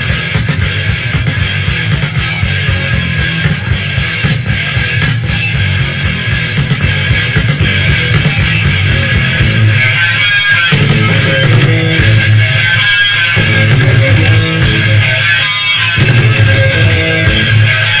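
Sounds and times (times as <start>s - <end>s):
bass guitar: 0.0s - 18.0s
drums: 0.0s - 18.0s
electric guitars: 0.0s - 18.0s.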